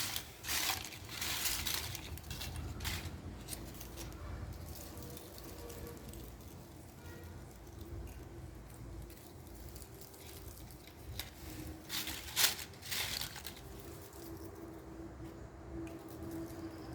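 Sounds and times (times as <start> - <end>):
potato chips crackling: 0.0 - 14.7.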